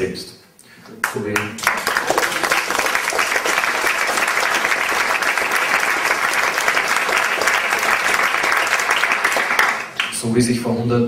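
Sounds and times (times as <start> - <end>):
audience applauding: 1.0 - 10.3.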